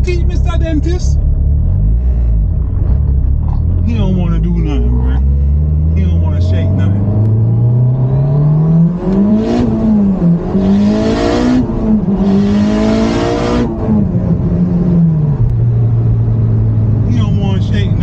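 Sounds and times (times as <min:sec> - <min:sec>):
car engine accelerating through gears: 0:00.0 - 0:18.0.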